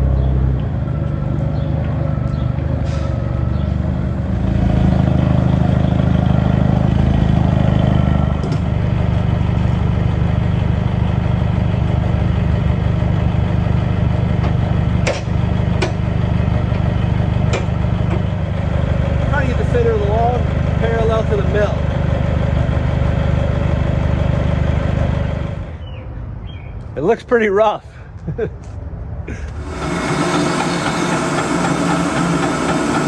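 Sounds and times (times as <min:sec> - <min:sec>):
engine running: 0:00.0 - 0:25.8, 0:29.3 - 0:33.0.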